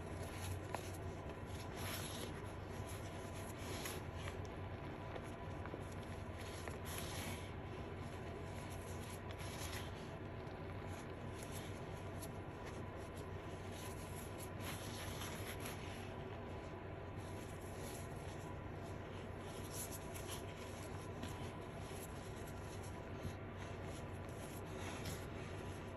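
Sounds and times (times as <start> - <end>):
fingers scratching chalk: 0.0 - 25.9.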